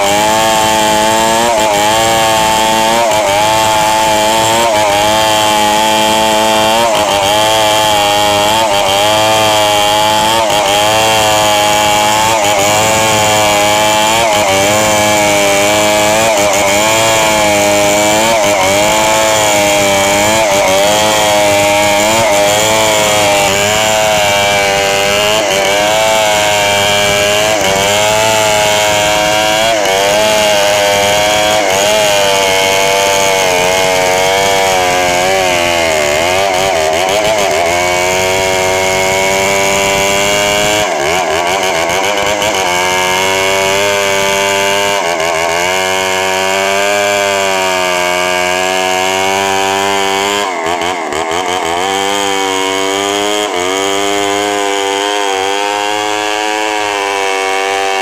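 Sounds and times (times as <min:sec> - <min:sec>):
chainsaw cutting through log: 0:00.0 - 0:58.0.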